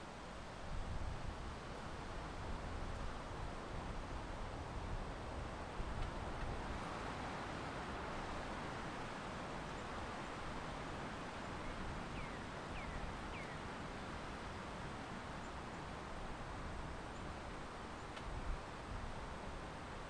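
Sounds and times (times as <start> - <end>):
outdoor wind: 0.0 - 20.0.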